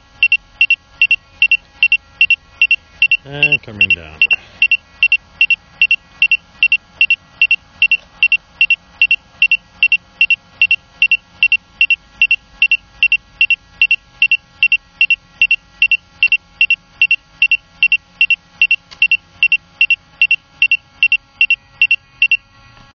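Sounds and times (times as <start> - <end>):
high electronic warning beeps: 0.0 - 22.5.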